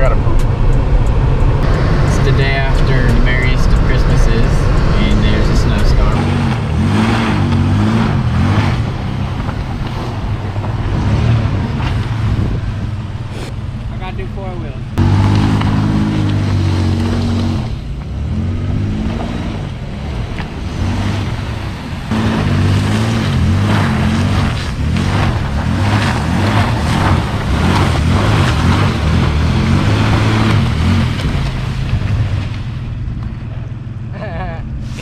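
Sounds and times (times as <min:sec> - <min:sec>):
engine revving: 0:00.0 - 0:35.0
tyres spinning through snow: 0:01.6 - 0:13.5, 0:15.0 - 0:34.4.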